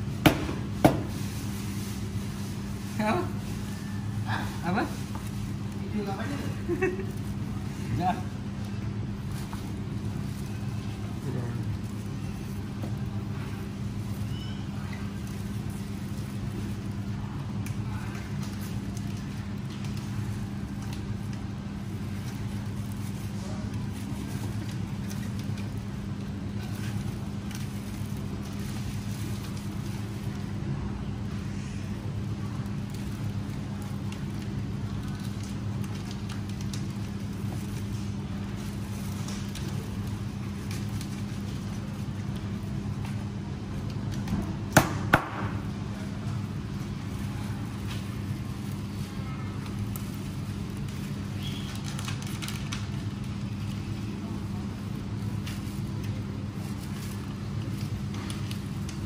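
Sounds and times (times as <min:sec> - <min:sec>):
low machinery hum: 0:00.0 - 0:59.0.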